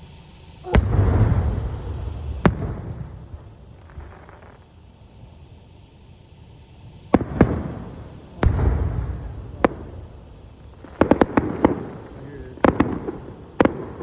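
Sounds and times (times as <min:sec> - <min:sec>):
firework bangs: 0:00.0 - 0:14.0
firework crackling: 0:00.0 - 0:14.0.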